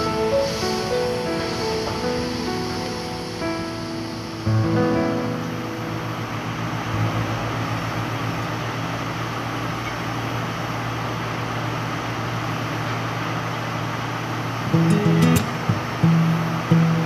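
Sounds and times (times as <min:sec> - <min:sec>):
diesel machinery droning: 0:00.0 - 0:17.0.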